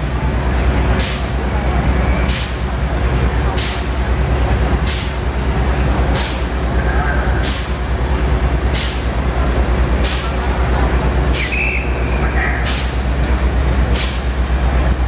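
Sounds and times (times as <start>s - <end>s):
fire engine pump rumbling: 0.0s - 15.0s.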